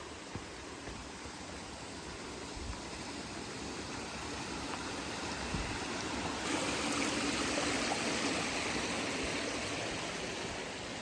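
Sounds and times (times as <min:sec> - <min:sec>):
stream water running: 0:00.0 - 0:11.0.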